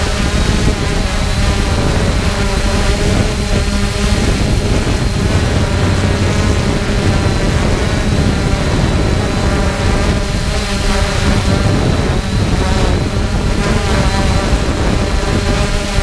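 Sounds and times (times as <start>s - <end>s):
drone propellers droning: 0.0s - 16.0s
faint high whine: 0.0s - 16.0s
wind rumble on microphone: 0.0s - 16.0s.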